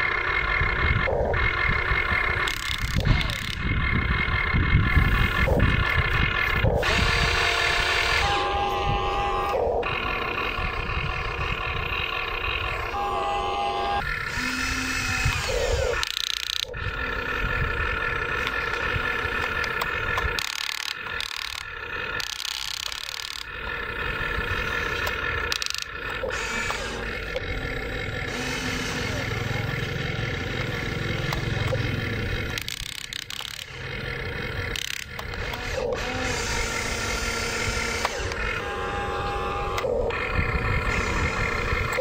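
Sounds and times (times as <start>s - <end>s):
electric motors whining: 0.0s - 42.0s.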